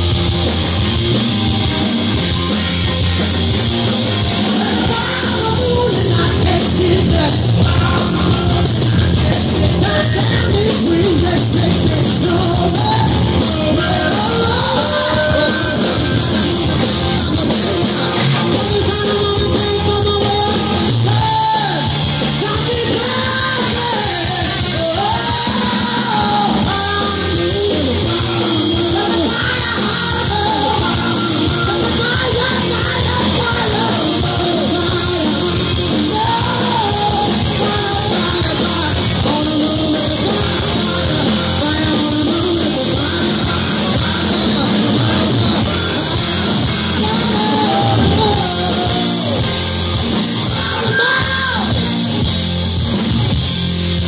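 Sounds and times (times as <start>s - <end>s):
live rock band playing: 0.0s - 54.0s
woman singing: 4.4s - 16.4s, 18.4s - 49.4s, 50.5s - 51.7s.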